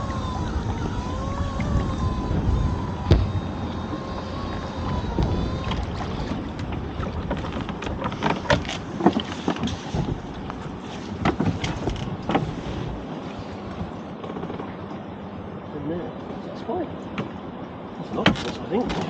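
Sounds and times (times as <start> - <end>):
wind and boat rumble: 0.0 - 19.0.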